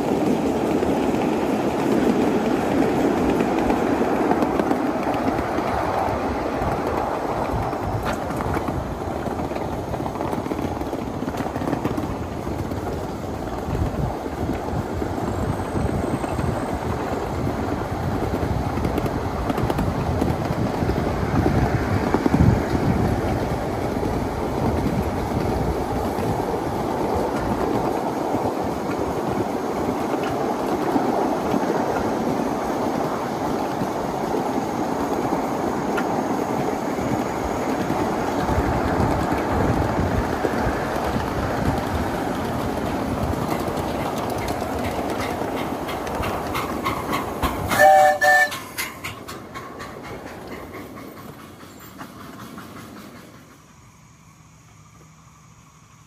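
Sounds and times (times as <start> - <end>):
wheels clattering on rails: 0.0 - 53.8
model steam train rumbling: 0.0 - 56.0.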